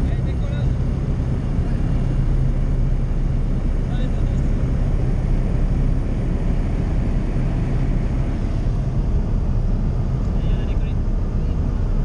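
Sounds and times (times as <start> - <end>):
light aircraft engine and propeller: 0.0 - 12.0
rushing wind: 0.0 - 12.0.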